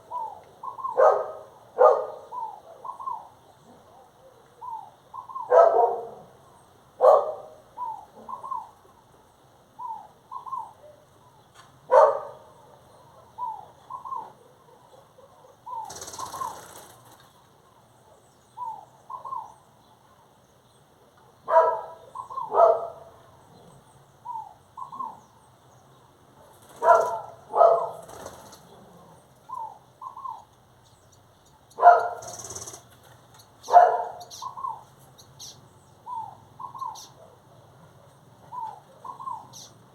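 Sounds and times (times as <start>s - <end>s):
harsh bird calls: 0.0s - 20.3s, 21.2s - 39.9s
birds calling: 0.0s - 39.9s.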